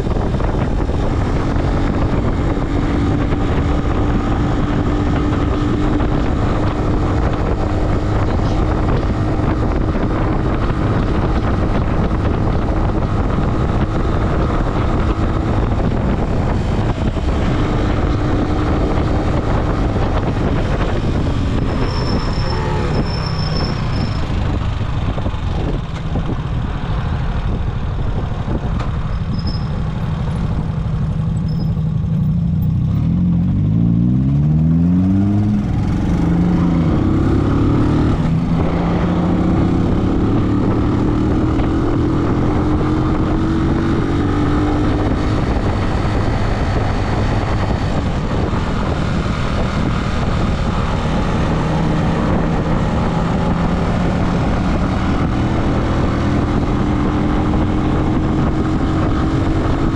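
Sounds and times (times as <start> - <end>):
vehicle engine accelerating: 0.0 - 59.9.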